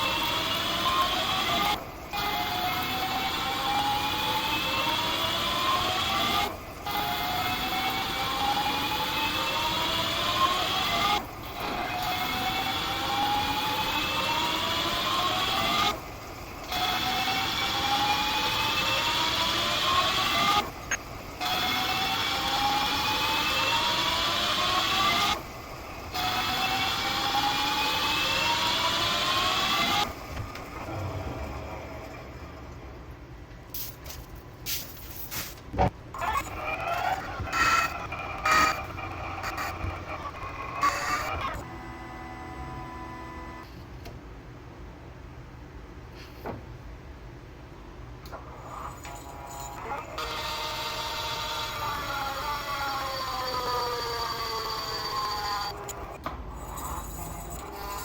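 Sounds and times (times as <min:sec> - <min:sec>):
metal lathe cutting with rising whine: 0:00.0 - 0:32.7, 0:36.2 - 0:43.6, 0:48.6 - 0:58.0.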